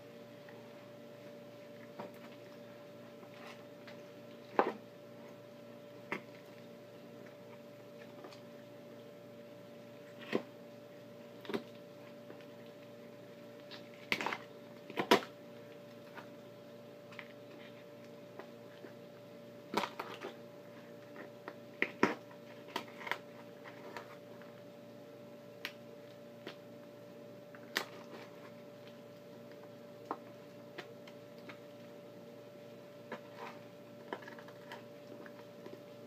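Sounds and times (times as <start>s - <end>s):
faint hum: 0.0s - 36.0s.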